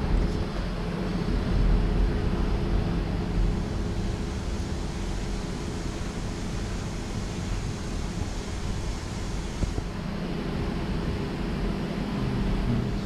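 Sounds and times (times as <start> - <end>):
water pumps humming: 0.0 - 13.0.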